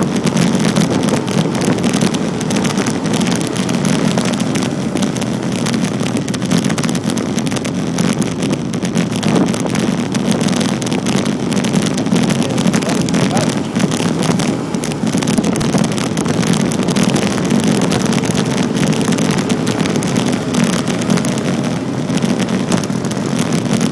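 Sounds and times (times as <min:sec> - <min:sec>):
low road rumble: 0:00.0 - 0:23.9
wind buffeting microphone: 0:00.0 - 0:23.9.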